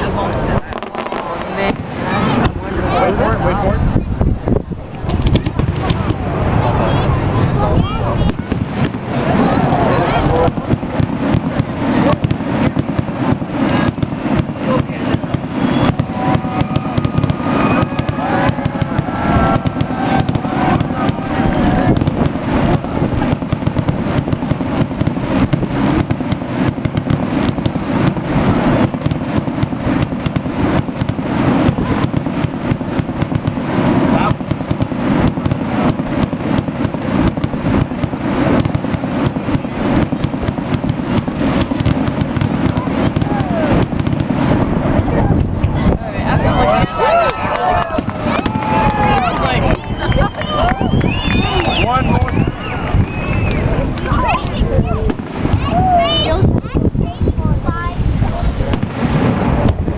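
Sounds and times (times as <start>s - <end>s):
fireworks whistling: 0.0s - 3.5s, 4.5s - 56.5s
fireworks bangs and crackling: 0.0s - 59.9s.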